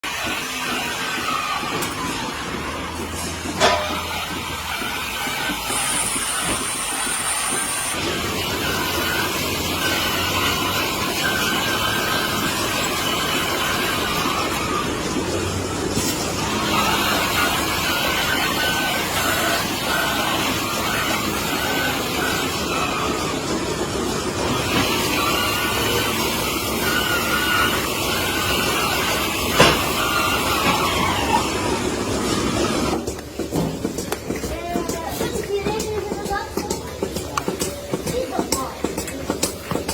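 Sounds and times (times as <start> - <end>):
milking machinery hiss and whir: 0.0 - 39.9.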